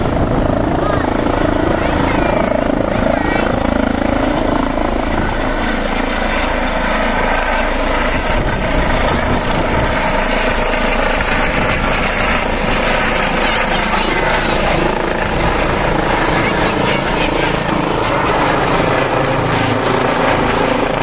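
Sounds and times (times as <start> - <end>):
helicopter flying low: 0.0 - 21.0.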